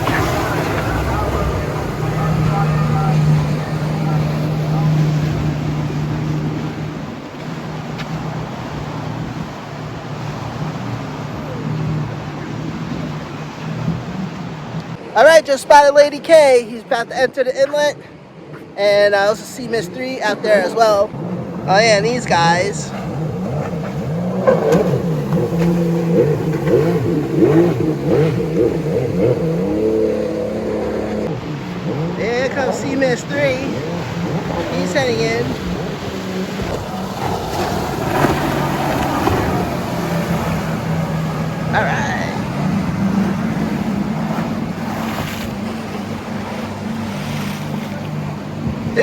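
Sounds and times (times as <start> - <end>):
motorboat engines droning: 0.0 - 49.0
water: 0.0 - 49.0
wind: 0.0 - 49.0.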